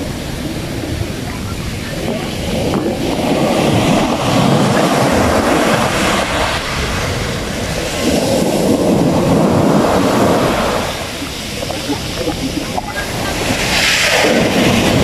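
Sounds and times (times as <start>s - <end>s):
ocean surf breaking on shore: 0.0s - 15.0s.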